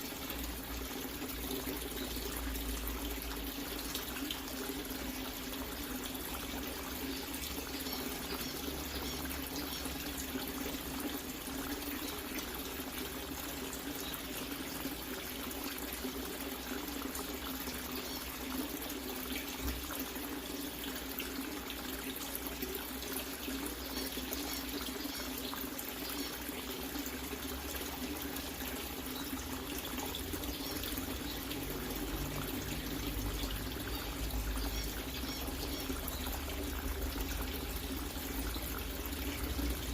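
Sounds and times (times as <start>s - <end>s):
water running into a tank: 0.0s - 39.9s.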